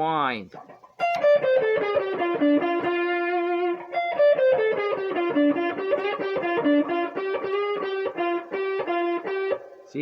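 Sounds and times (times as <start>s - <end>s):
electric guitar blues lead: 0.5s - 9.9s.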